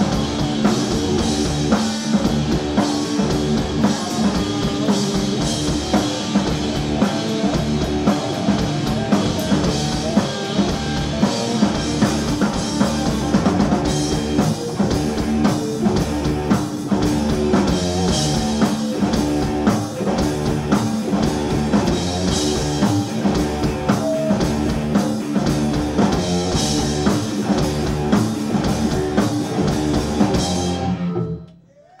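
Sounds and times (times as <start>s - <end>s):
distorted electric guitars: 0.0s - 31.5s
bass guitar: 0.0s - 31.6s
drum kit: 0.0s - 31.6s.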